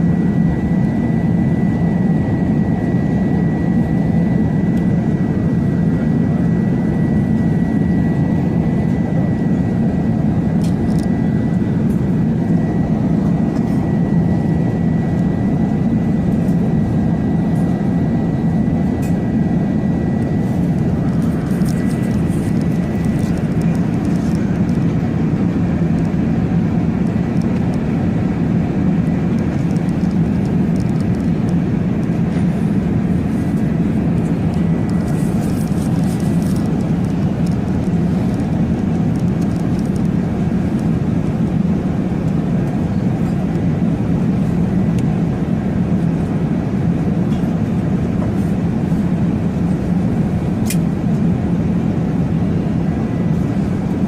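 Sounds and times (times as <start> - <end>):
low mechanical drone: 0.0 - 54.0.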